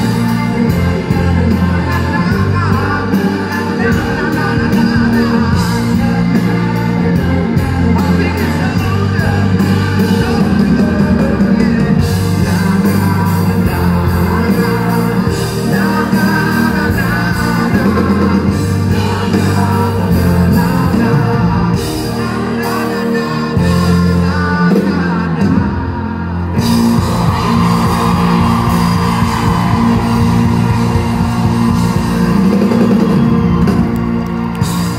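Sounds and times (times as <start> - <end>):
man singing: 0.0 - 33.9
live rock band playing: 0.0 - 34.9.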